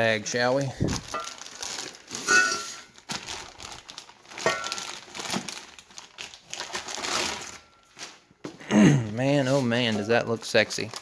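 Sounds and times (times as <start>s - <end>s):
plastic bag crinkling: 0.6s - 8.3s, 9.2s - 11.0s.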